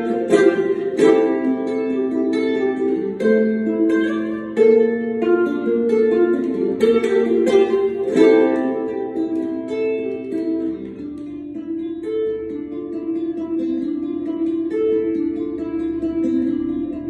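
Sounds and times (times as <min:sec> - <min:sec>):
ukulele plucked and strummed: 0:00.0 - 0:17.0.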